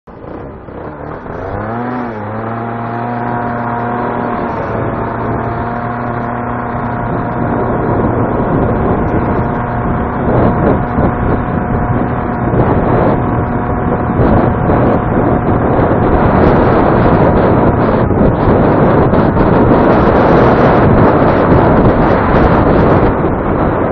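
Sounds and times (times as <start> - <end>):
scooter engine hum: 0.1 - 23.9
wind buffeting microphone: 0.1 - 23.9.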